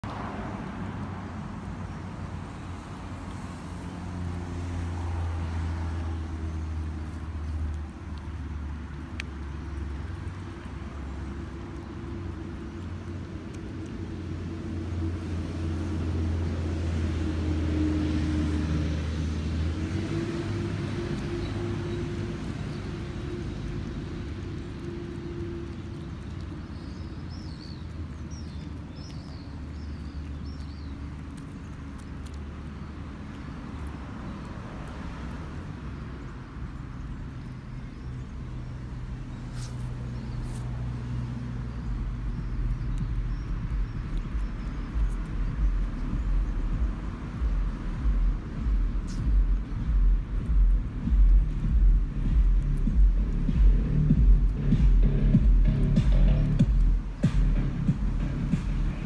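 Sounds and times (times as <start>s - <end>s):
traffic engine hum: 0.0s - 59.0s.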